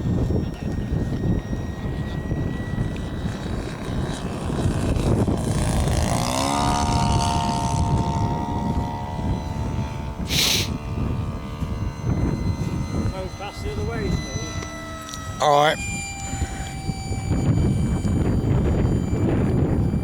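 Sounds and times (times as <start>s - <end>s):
model plane engine droning: 0.0s - 20.0s
wind buffeting microphone: 0.0s - 20.0s.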